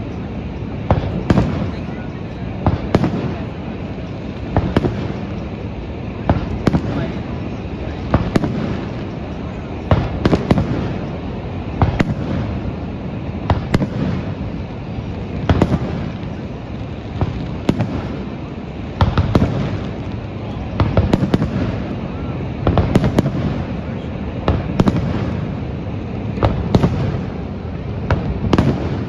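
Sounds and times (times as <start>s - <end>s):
fireworks bangs with echoes: 0.0s - 29.0s.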